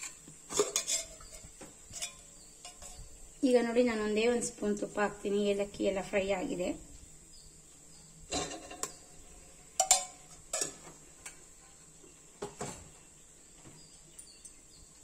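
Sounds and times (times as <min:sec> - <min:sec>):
spices popping in hot oil: 0:00.0 - 0:15.0.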